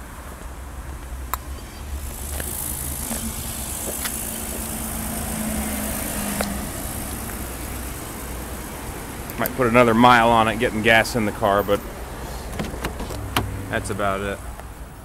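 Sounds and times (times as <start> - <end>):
vehicle engine running: 0.3 - 15.0.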